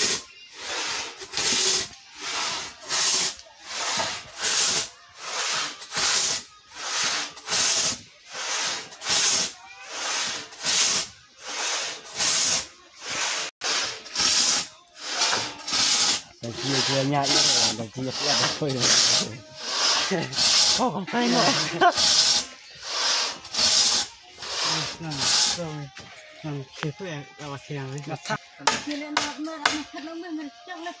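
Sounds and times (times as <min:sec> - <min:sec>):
pit saw rasping through log: 0:00.0 - 0:25.9.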